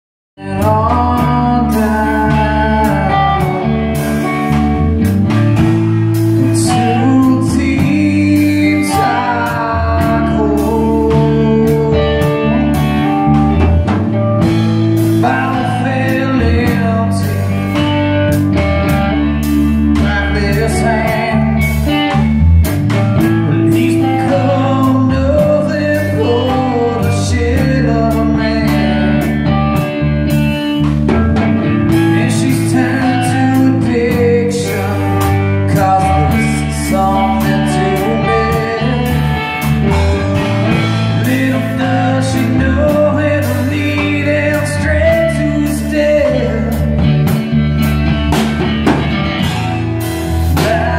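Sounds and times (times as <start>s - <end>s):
bass line: 0.4s - 50.9s
drum kit beat: 0.4s - 50.9s
electric guitar: 0.4s - 50.9s.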